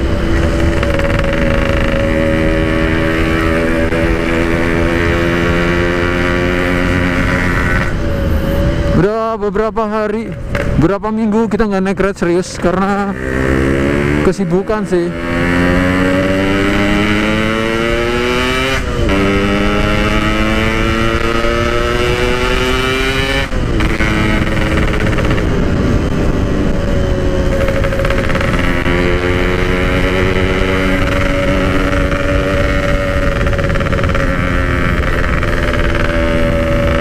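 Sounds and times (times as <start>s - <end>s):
two-stroke motorcycle accelerating: 0.0s - 37.0s.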